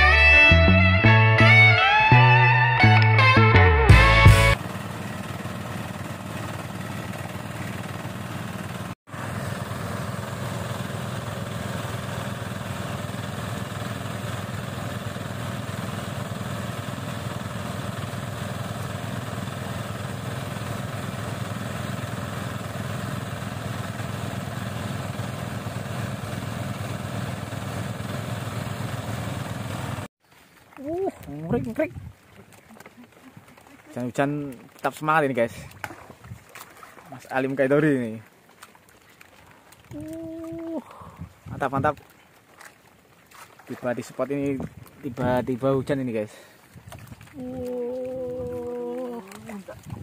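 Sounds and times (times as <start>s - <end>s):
small petrol boat engine running: 3.7s - 30.1s, 30.8s - 42.0s, 42.6s - 50.0s.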